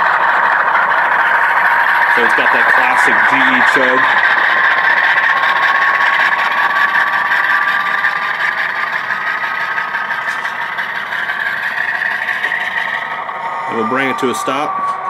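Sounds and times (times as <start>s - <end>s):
model diesel engine chugging: 0.0s - 15.0s.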